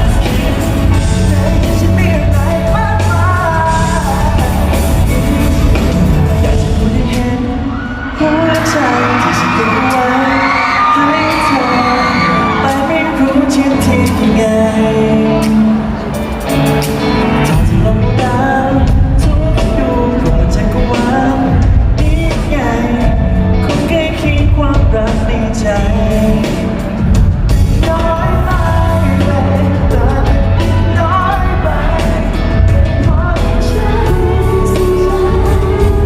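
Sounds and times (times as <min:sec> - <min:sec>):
steady drum beat: 0:00.0 - 0:09.5, 0:16.2 - 0:36.0
live pop-rock band: 0:00.0 - 0:36.0
person singing: 0:00.0 - 0:36.0.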